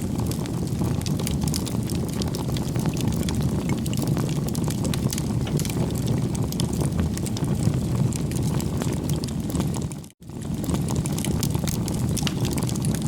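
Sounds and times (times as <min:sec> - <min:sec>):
bonfire flames rumbling: 0:00.0 - 0:13.0
burning wood crackling: 0:00.0 - 0:13.0.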